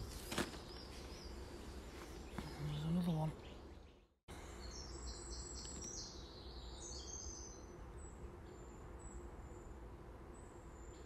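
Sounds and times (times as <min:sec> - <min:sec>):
birds singing and chirping: 0:00.0 - 0:11.0.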